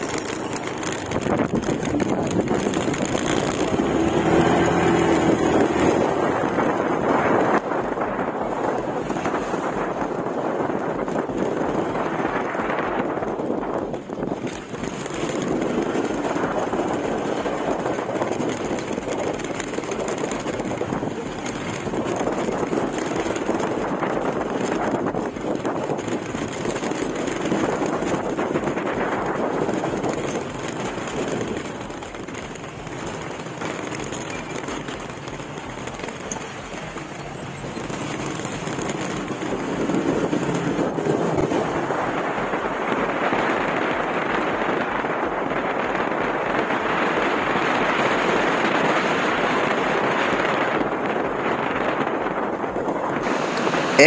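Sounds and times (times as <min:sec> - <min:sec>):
motorcycle engine running: 0:00.0 - 0:54.0
wind buffeting crackle: 0:00.0 - 0:54.0
wind rushing on microphone: 0:00.0 - 0:54.0.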